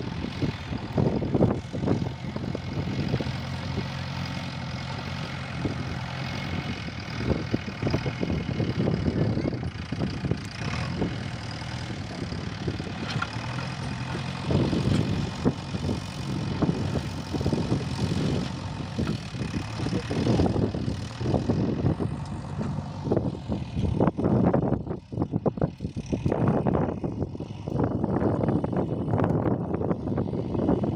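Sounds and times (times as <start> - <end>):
backhoe diesel engine running: 0.0 - 30.9.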